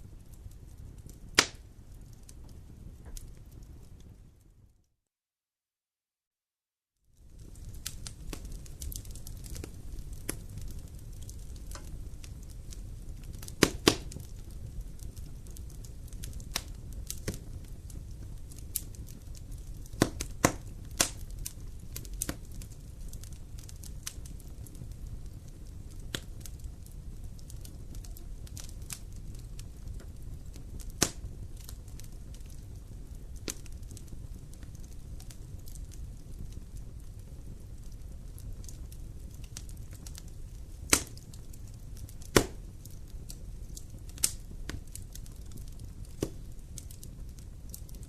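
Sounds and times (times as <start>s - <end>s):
low fire rumble: 0.0s - 4.8s, 7.0s - 48.0s
campfire crackling and popping: 0.1s - 4.6s, 7.2s - 48.0s.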